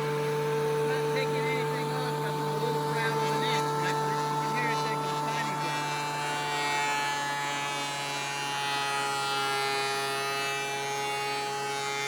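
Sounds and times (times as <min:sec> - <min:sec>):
thickness planer motor whine: 0:00.0 - 0:12.0.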